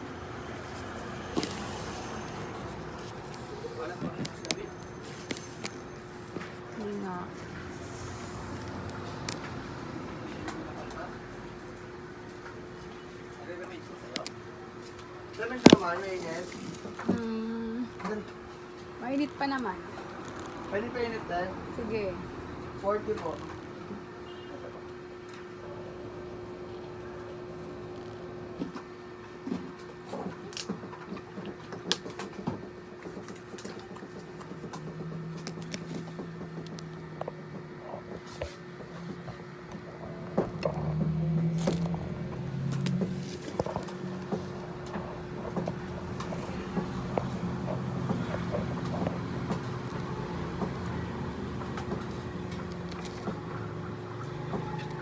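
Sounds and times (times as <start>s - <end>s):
constant hum: 0.0s - 55.0s
low mechanical rumble: 0.0s - 55.0s.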